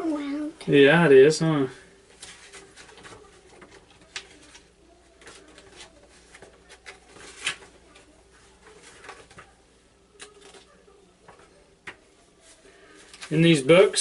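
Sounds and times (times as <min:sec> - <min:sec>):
paper rustling: 0:02.1 - 0:13.9.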